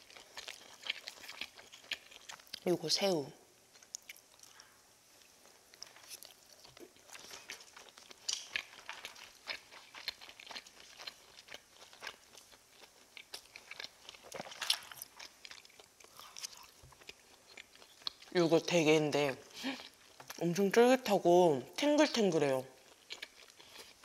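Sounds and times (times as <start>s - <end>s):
chewing crunchy food: 0.0s - 2.7s, 3.7s - 18.4s, 19.5s - 20.4s, 22.2s - 24.0s.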